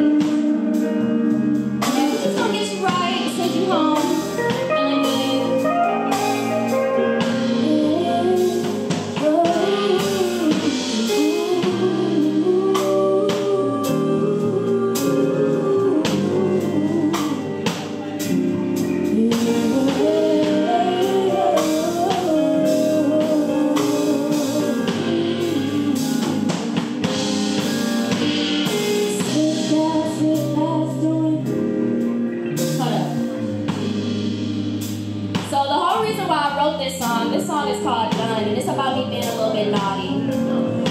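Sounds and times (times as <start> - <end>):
woman singing: 0.0 - 6.5, 7.2 - 26.8, 28.6 - 33.3, 35.4 - 40.9
band playing: 0.0 - 40.9.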